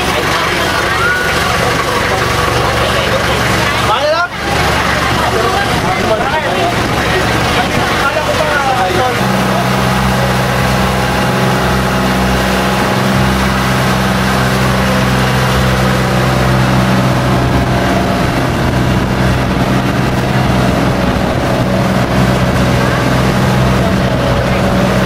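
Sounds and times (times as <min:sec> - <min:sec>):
boat engine droning: 0:00.0 - 0:25.0
rushing noise: 0:00.0 - 0:25.0.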